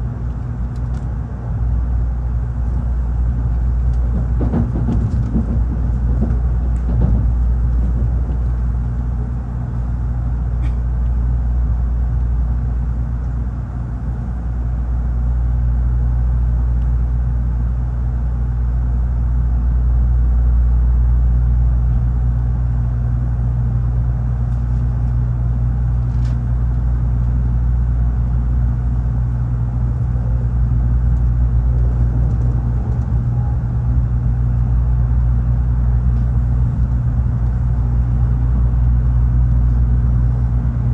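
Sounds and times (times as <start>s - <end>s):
train cabin low rumble: 0.0s - 40.9s.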